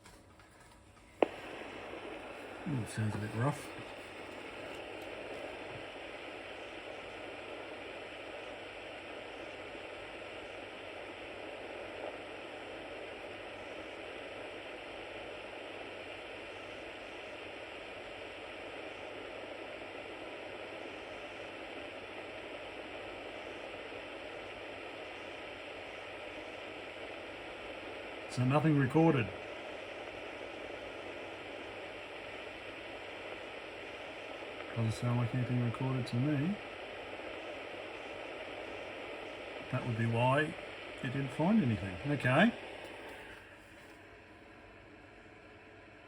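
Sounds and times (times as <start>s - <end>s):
cassette tape hiss: 0.0s - 46.0s.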